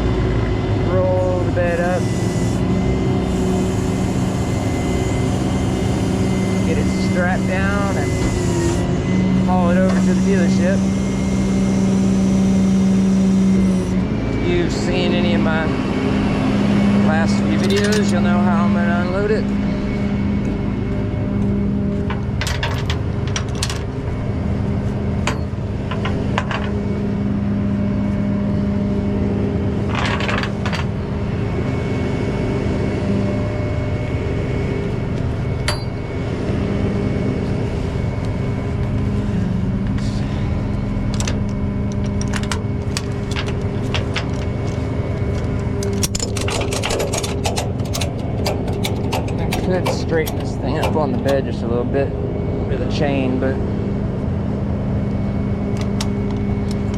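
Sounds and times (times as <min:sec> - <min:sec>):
tow truck mechanical hum: 0:00.0 - 0:56.9.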